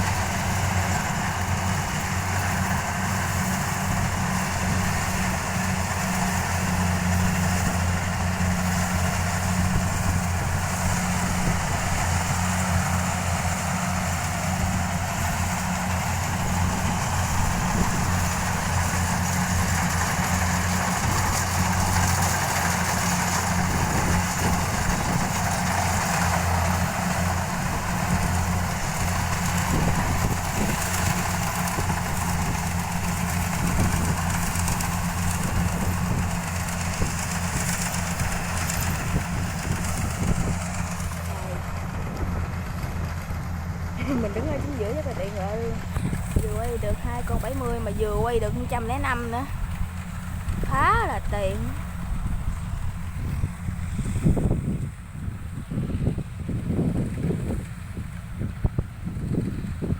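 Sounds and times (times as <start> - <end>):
combine harvester engine drone: 0.0 - 59.9
rushing machinery noise: 0.0 - 59.9.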